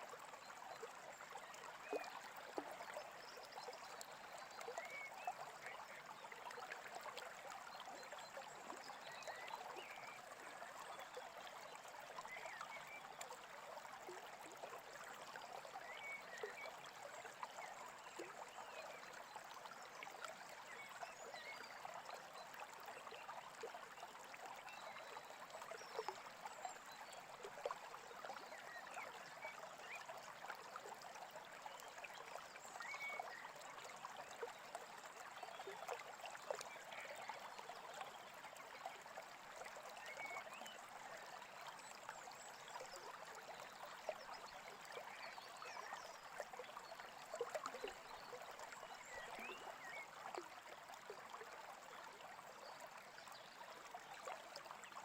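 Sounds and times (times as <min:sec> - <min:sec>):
brook babbling: 0:00.0 - 0:55.0.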